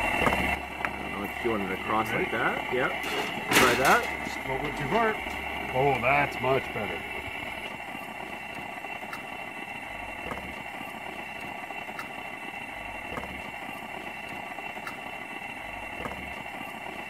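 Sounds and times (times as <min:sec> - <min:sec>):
gas burner hissing: 0:00.0 - 0:17.0.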